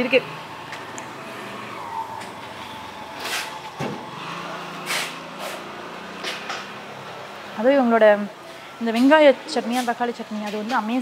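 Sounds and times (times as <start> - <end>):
street vehicle noise: 0.0 - 11.0.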